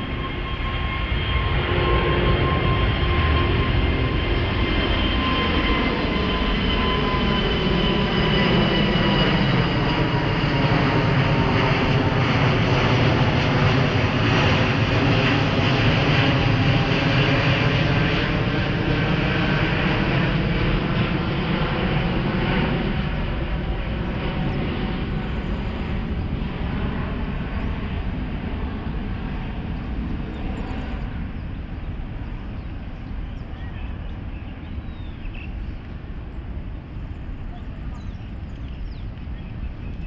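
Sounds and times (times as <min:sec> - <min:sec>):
jet engines at take-off power: 0:00.0 - 0:40.0.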